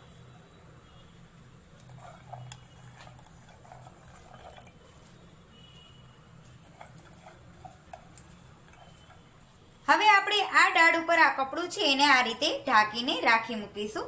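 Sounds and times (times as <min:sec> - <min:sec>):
low steady hum: 0:00.0 - 0:12.6.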